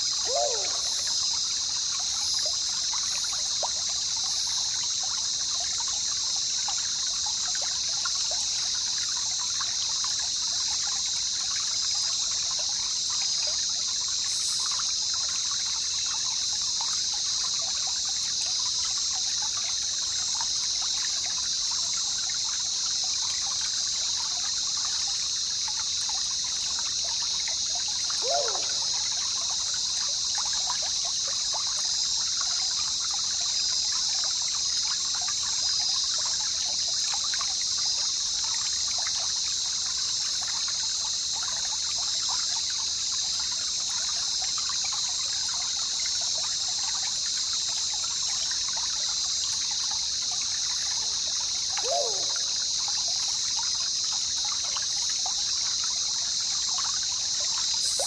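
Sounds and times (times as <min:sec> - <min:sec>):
constant high hiss: 0:00.0 - 0:58.0
water trickling and babbling: 0:00.0 - 0:58.0.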